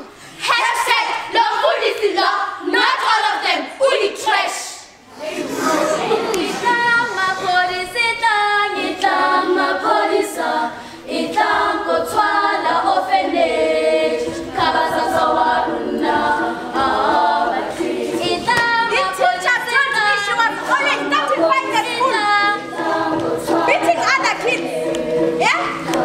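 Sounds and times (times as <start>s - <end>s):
girls' choir singing unaccompanied: 0.0s - 26.0s.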